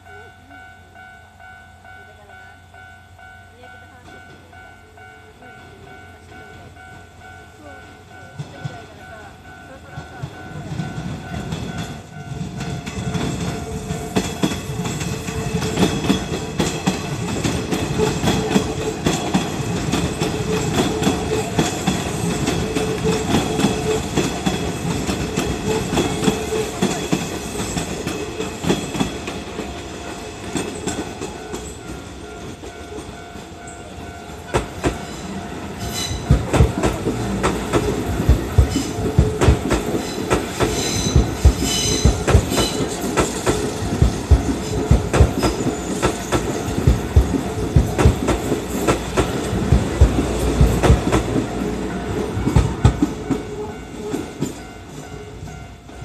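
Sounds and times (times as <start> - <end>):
crossing warning bell ringing: 0.0 - 56.0
train wheels clattering on rails: 5.6 - 56.0.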